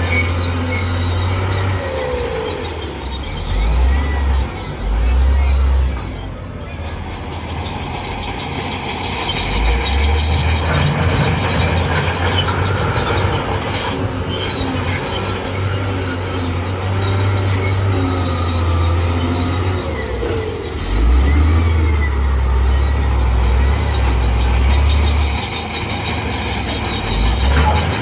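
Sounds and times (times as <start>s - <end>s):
steel tracks squealing: 0.0s - 28.0s.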